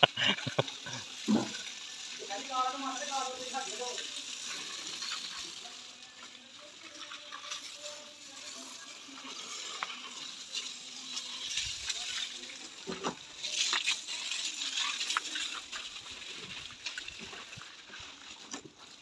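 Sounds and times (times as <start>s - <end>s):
hose water spraying on metal: 0.0s - 19.0s.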